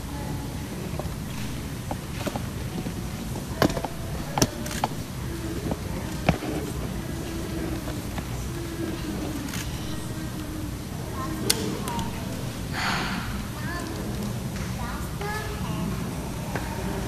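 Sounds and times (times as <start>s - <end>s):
steady room noise: 0.0s - 17.0s.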